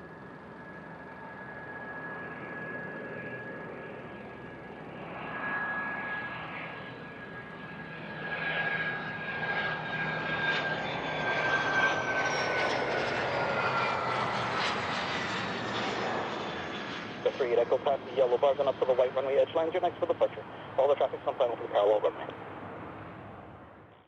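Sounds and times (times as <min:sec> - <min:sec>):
plane engine whine passing: 0:00.0 - 0:24.0.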